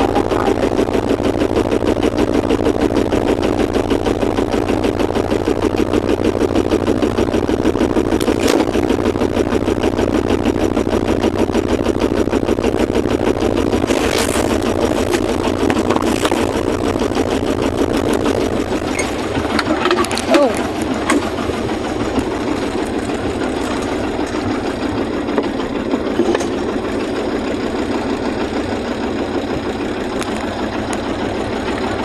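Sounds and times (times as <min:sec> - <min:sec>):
boat engine chugging: 0:00.0 - 0:32.0.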